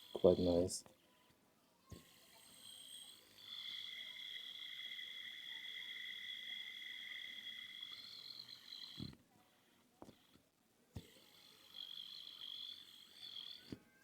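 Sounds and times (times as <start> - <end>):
fidget spinner whirring: 0.0 - 9.3, 11.0 - 14.0.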